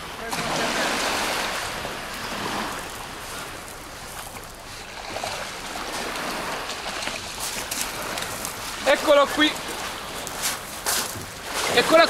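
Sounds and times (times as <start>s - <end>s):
small waves washing on beach: 0.0s - 12.0s.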